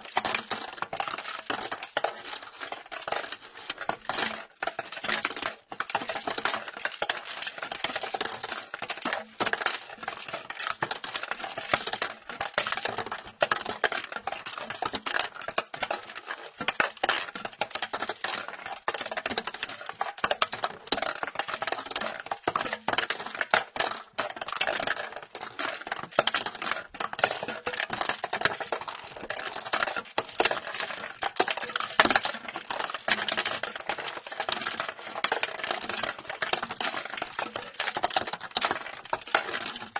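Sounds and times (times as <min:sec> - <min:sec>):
ball rattling in plastic box: 0:00.0 - 0:39.9.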